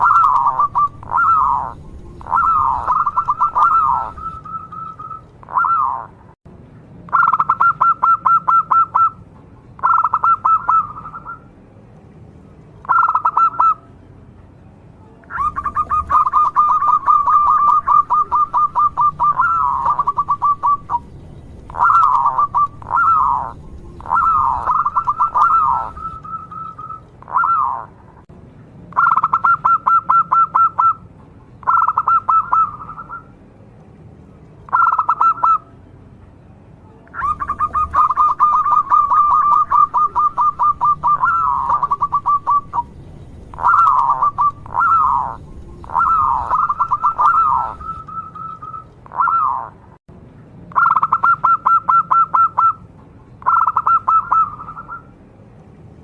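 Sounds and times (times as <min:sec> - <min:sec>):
dove cooing song: 0:00.0 - 0:06.2, 0:07.1 - 0:09.2, 0:09.8 - 0:11.4, 0:12.8 - 0:13.8, 0:15.2 - 0:28.0, 0:29.0 - 0:31.0, 0:31.6 - 0:33.3, 0:34.7 - 0:35.7, 0:37.1 - 0:49.8, 0:50.8 - 0:52.8, 0:53.4 - 0:55.1.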